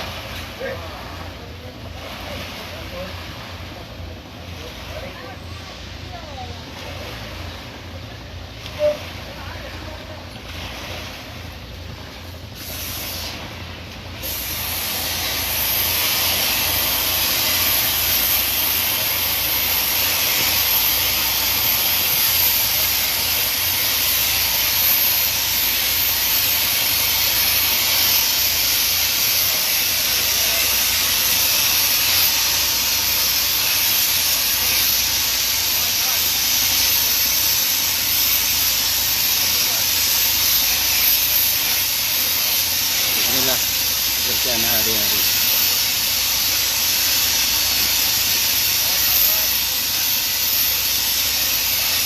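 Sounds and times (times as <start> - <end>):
loud steady hiss: 0.0 - 52.0.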